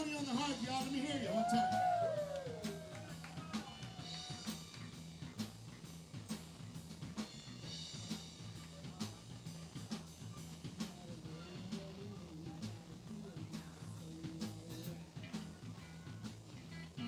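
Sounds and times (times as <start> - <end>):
bass guitar line: 0.0 - 17.0
drum kit beat: 0.0 - 17.0.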